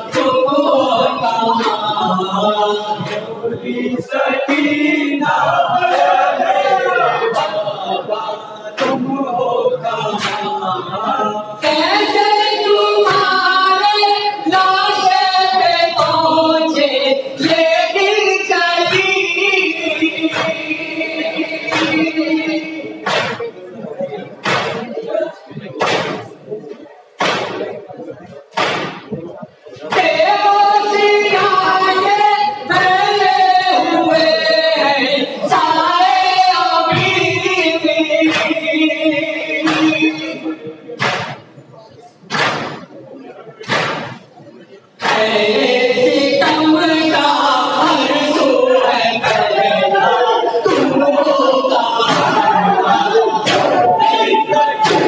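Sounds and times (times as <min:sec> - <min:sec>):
chorus of voices singing: 0:00.0 - 0:23.7, 0:29.8 - 0:41.3, 0:45.0 - 0:55.0
men reciting a lament: 0:00.0 - 0:55.0
rhythmic chest-beating thumps: 0:00.0 - 0:55.0.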